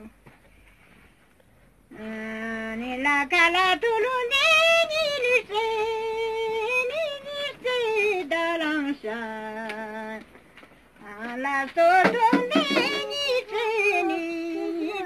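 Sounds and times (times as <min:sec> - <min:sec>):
woman singing unaccompanied: 0:01.9 - 0:10.3, 0:11.0 - 0:15.0.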